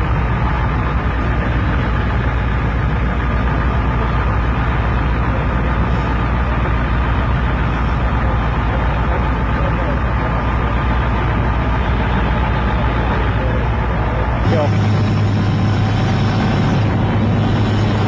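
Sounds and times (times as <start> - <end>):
heavy engines droning: 0.0 - 18.0.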